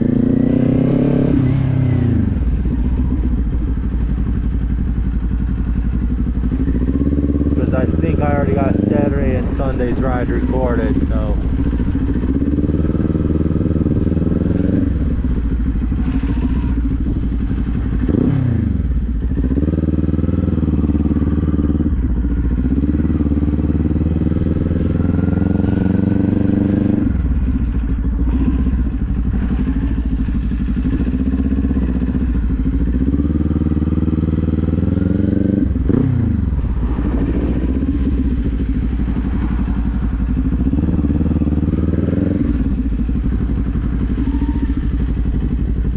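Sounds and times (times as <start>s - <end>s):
motorcycle engine shifting gears: 0.0s - 45.9s.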